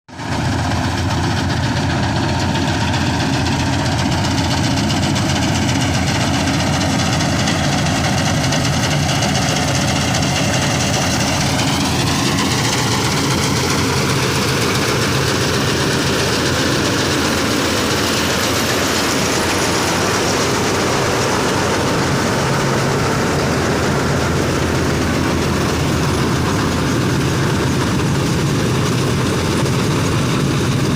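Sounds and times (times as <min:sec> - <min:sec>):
tractor diesel engine: 0:00.1 - 0:30.9
combine harvester machinery: 0:00.2 - 0:30.9.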